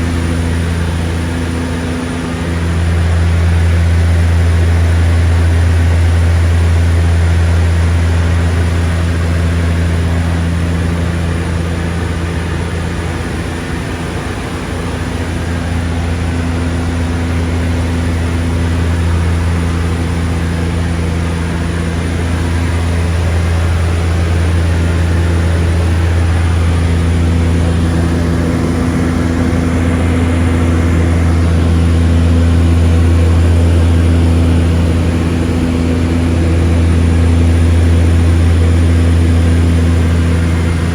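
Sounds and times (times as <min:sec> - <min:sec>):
propeller engines droning: 0:00.0 - 0:40.9.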